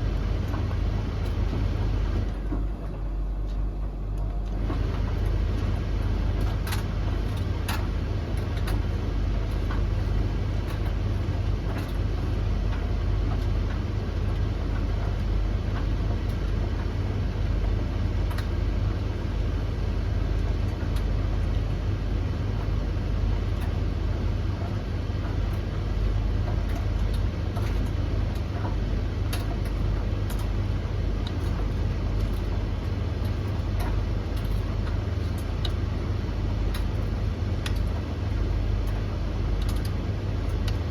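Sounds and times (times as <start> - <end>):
light clicks of tumbling loads: 0.0 - 40.9
tumble dryers rumbling: 0.0 - 40.9.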